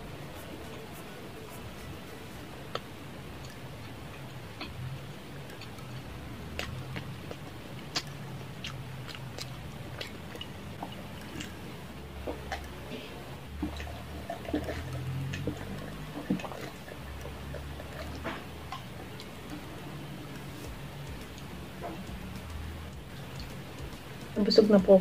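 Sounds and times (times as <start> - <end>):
low steady hum: 0.0 - 25.0
chewing and lip-smacking: 0.1 - 24.4.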